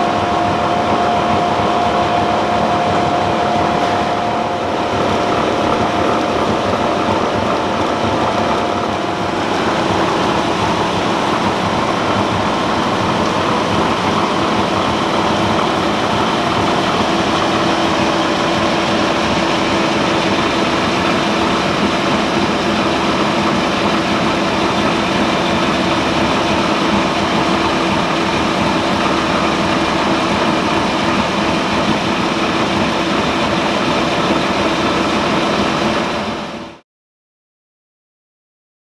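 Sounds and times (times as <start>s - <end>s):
machine hum: 0.0s - 36.8s.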